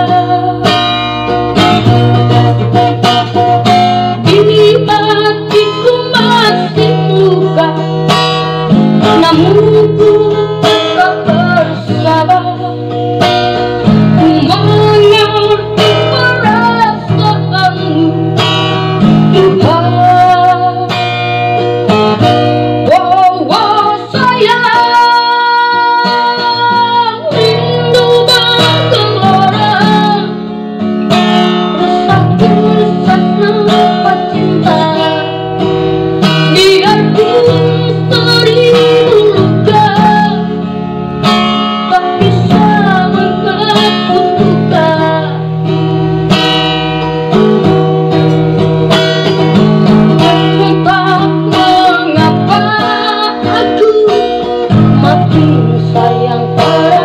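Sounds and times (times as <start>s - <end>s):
woman singing: 0.0s - 45.8s, 47.3s - 57.0s
strummed acoustic guitar: 0.0s - 57.0s.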